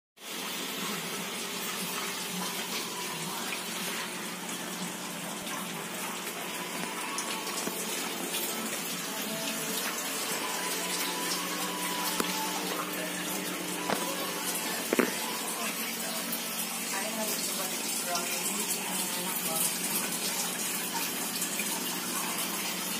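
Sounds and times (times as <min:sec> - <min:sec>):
water rushing in washing machine: 0:00.2 - 0:22.9.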